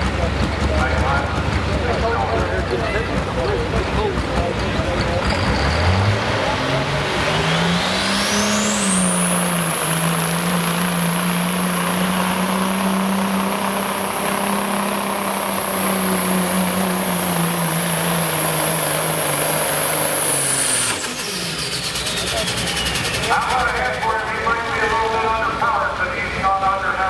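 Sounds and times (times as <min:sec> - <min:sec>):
diesel truck engine under load: 0:00.0 - 0:27.0
turbocharger whine: 0:00.0 - 0:27.0.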